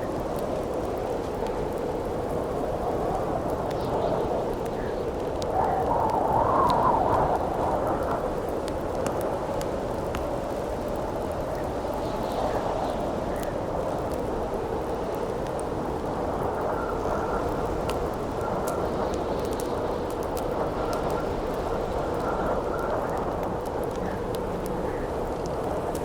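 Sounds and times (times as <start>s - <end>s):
campfire crackling: 0.0s - 26.0s
rushing wind: 0.0s - 26.0s.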